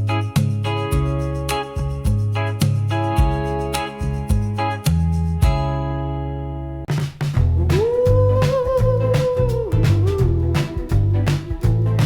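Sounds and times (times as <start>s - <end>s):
rock and roll music: 0.0s - 5.9s, 6.9s - 12.0s.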